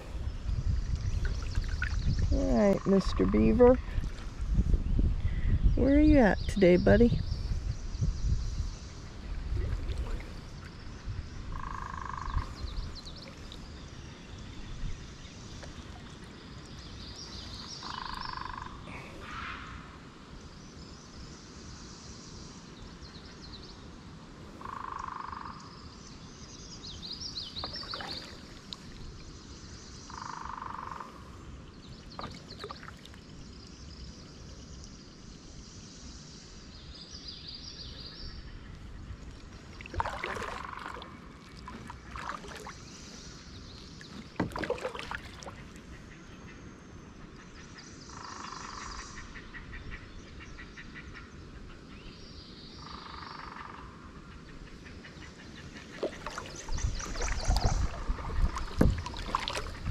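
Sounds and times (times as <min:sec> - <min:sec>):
high chirping birdsong: 0:00.0 - 0:19.0, 0:24.7 - 0:51.4, 0:54.6 - 0:59.9.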